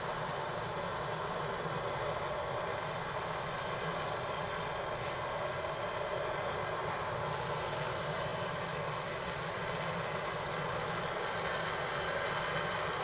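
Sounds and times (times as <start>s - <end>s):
propane torch hissing: 0.0s - 13.0s.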